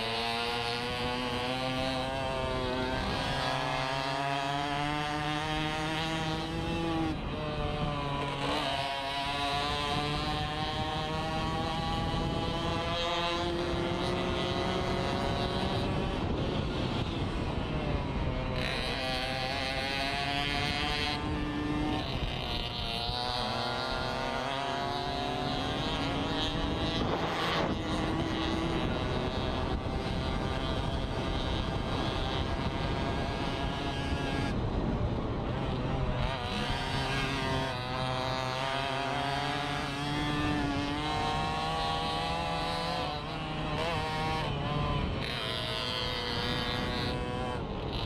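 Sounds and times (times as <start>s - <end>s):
moped engine revving hard: 0.0s - 48.0s
wind rushing over microphone: 0.0s - 48.0s.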